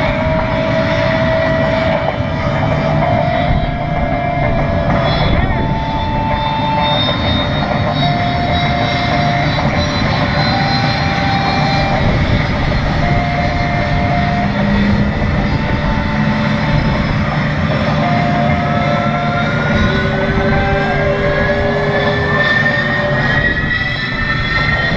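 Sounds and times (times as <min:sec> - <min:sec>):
jet engine whines: 0:00.0 - 0:24.9
jet engines roaring: 0:00.0 - 0:24.9.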